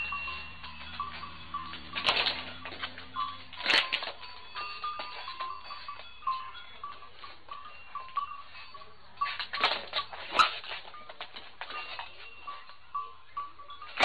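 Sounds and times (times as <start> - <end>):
animals scuffling: 0.0 - 14.0.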